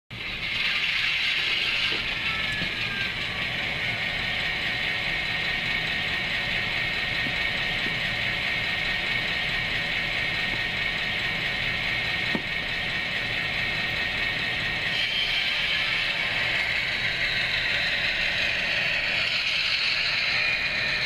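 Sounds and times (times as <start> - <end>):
model train motor whirring: 0.2 - 21.0.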